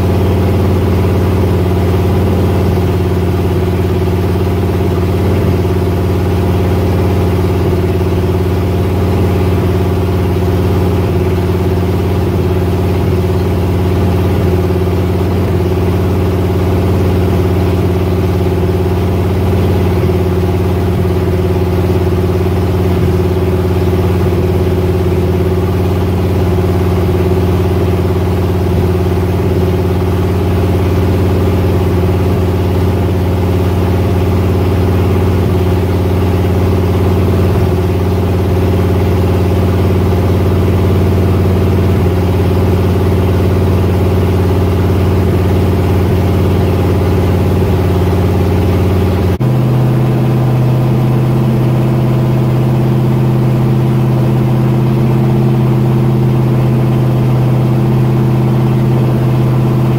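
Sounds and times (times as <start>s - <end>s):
car engine running loud: 0.0s - 59.9s.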